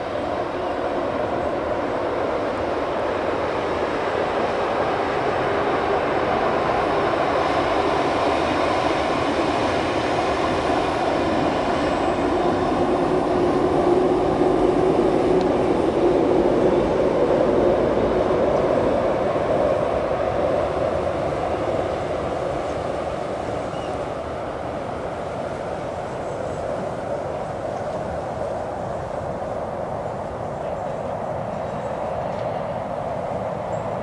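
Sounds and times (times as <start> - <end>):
train rumbling across steel bridge: 0.0 - 34.0.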